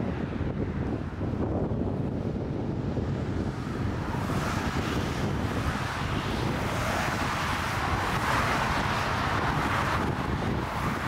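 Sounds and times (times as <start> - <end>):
gusty wind buffeting microphone: 0.0 - 11.0
jet airliner landing: 2.0 - 11.0.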